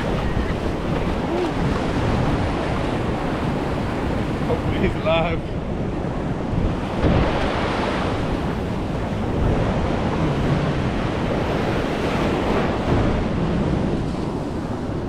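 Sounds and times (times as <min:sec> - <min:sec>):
surf washing up a beach: 0:00.0 - 0:15.0
wind buffeting microphone: 0:00.0 - 0:15.0.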